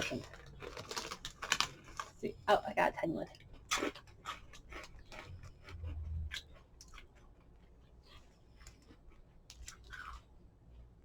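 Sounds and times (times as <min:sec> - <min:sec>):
crunchy snack chewing: 0:00.0 - 0:02.2, 0:03.4 - 0:10.3.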